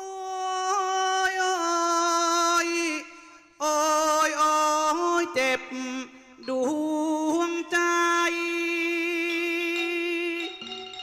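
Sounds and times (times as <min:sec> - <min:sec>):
person singing into a microphone: 0:00.0 - 0:11.0.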